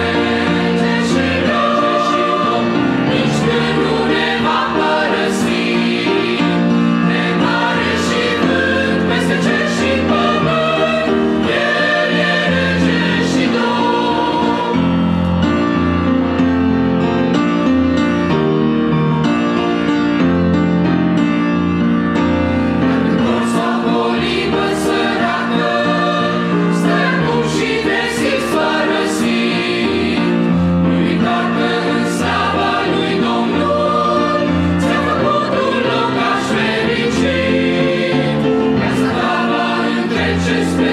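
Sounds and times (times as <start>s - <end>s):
choir singing a hymn: 0.0s - 16.1s, 22.5s - 40.9s.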